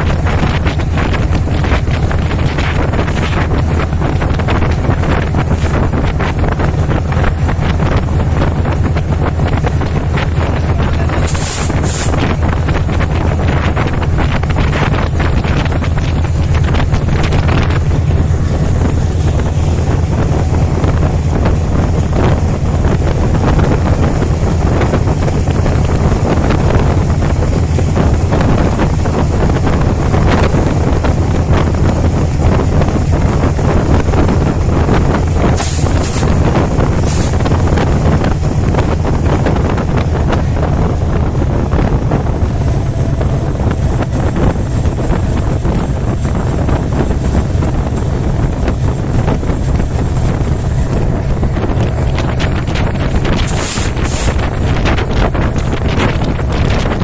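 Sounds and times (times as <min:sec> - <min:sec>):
train rumbling on rails: 0:00.0 - 0:57.0
wind buffeting microphone: 0:00.0 - 0:57.0.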